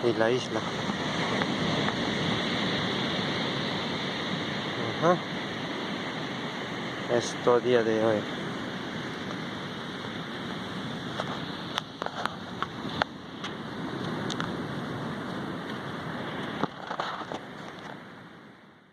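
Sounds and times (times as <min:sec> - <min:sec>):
sea waves washing on shore: 0:00.0 - 0:18.7.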